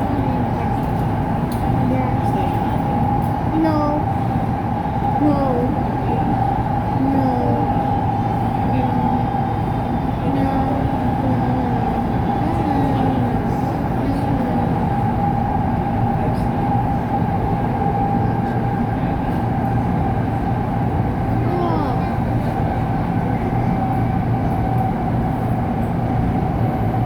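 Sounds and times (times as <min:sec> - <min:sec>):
train rumble inside car: 0:00.0 - 0:27.0.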